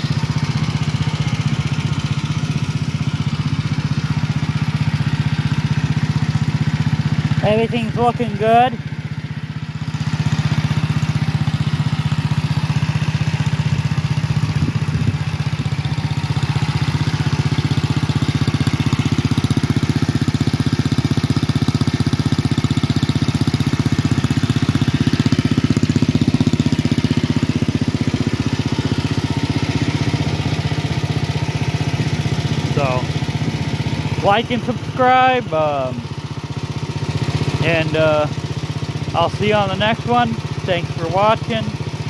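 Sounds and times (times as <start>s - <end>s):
garden tractor engine running: 0.0s - 42.0s.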